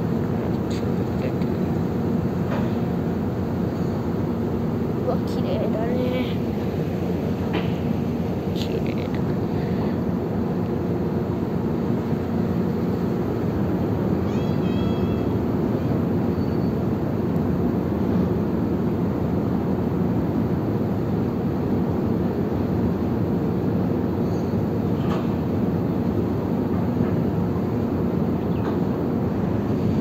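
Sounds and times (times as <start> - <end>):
ship engines rumbling: 0.0 - 30.0.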